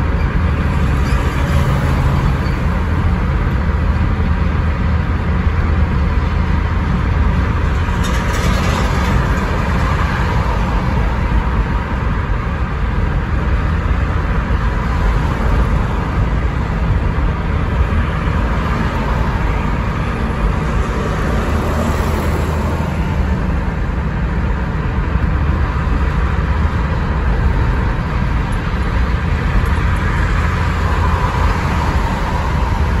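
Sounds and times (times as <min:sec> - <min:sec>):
car cabin road noise: 0:00.0 - 0:33.0.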